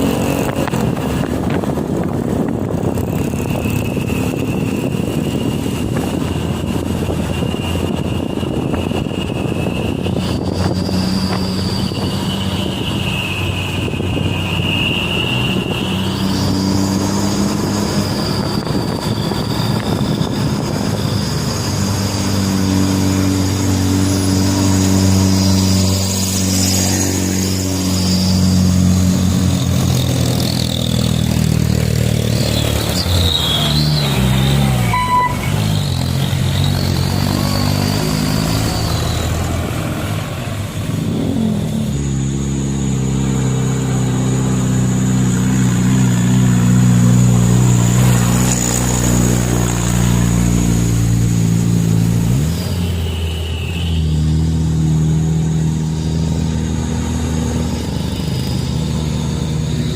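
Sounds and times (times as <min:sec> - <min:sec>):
truck engine running under load: 0:00.0 - 0:52.9.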